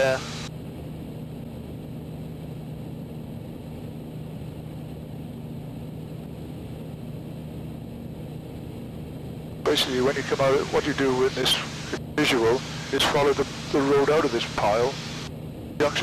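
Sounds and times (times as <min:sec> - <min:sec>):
light aircraft engine drone: 0:00.0 - 0:16.0.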